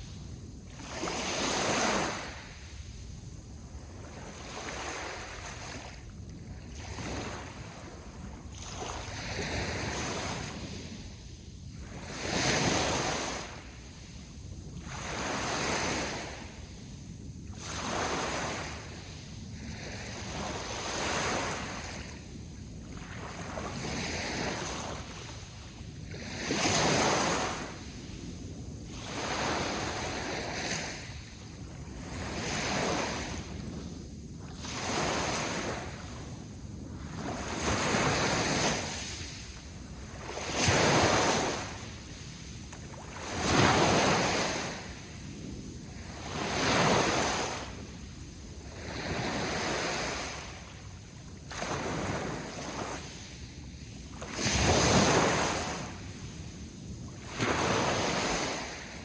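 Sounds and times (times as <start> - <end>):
sea waves washing ashore: 0.0 - 59.0.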